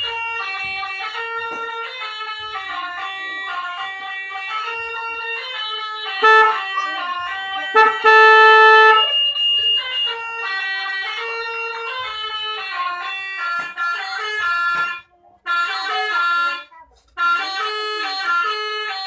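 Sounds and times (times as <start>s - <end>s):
bus horn playing melody: 0.0s - 19.0s.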